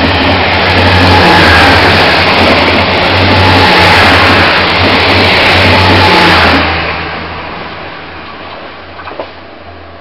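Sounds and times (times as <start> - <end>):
diesel engines humming: 0.0 - 10.0
train wheels rumbling on rail: 0.0 - 10.0.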